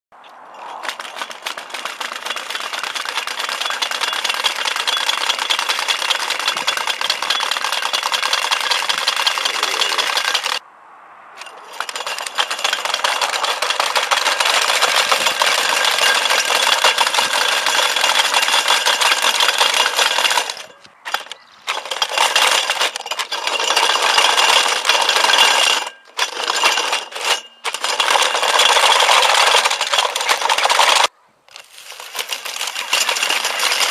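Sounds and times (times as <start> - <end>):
robot gearmotors rattling: 0.2 - 10.6, 11.4 - 33.9.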